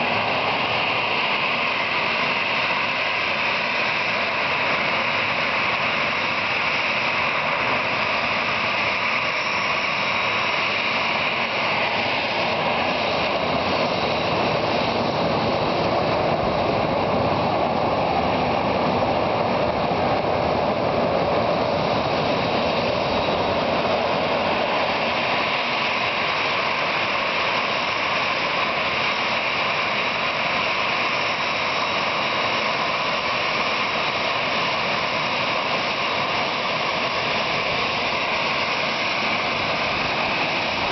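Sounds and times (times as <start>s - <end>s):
jet engines taxiing: 0.0s - 40.9s.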